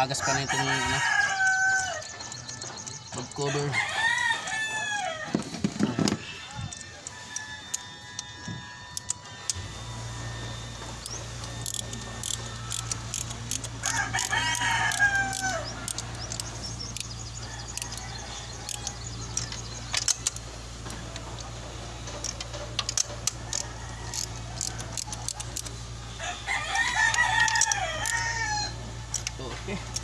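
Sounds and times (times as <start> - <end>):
rooster crowing: 0.0 - 5.5, 6.1 - 10.6, 11.9 - 20.1, 23.0 - 29.3
hand tools clinking: 0.0 - 9.6, 11.0 - 25.7, 26.7 - 30.0
steady low hum: 0.0 - 30.0.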